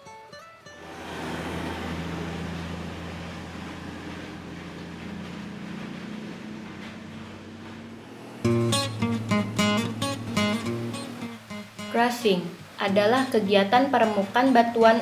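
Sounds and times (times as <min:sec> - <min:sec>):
diesel truck engine running: 0:00.7 - 0:14.5.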